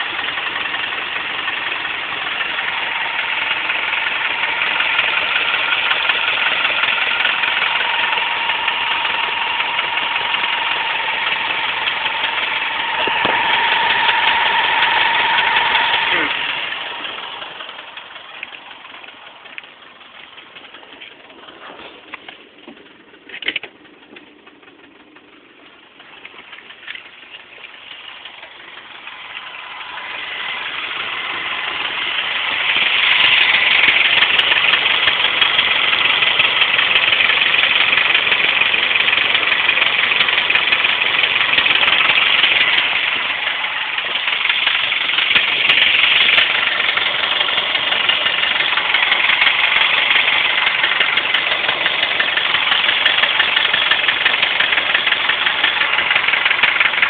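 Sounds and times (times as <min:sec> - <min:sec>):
engine idling rough: 0:00.0 - 0:57.0
rapid engine clicking knock: 0:00.0 - 0:57.0.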